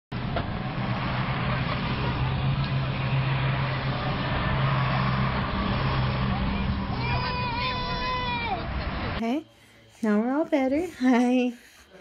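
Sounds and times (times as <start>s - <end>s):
outdoor background noise: 0.1s - 12.0s.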